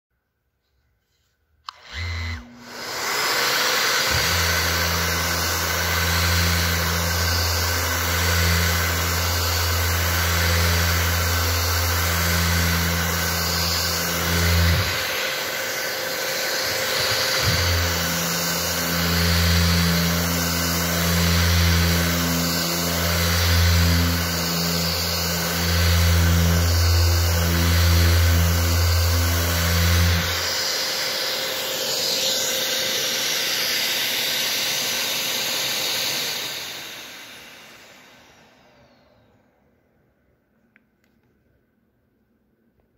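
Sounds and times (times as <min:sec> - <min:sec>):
orbital sander humming: 0:01.7 - 0:39.4.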